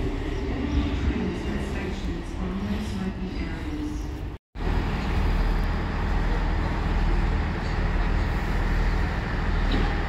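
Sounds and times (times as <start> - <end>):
diesel train engine rumbling: 0.0 - 10.0.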